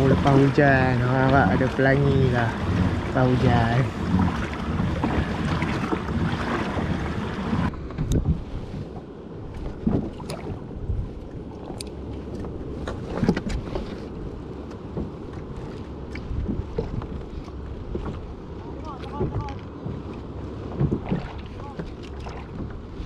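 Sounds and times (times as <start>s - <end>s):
knocks and splashes against hull: 0.0s - 23.0s
water sloshing around kayak: 0.0s - 23.0s
wind buffeting microphone: 0.0s - 23.0s.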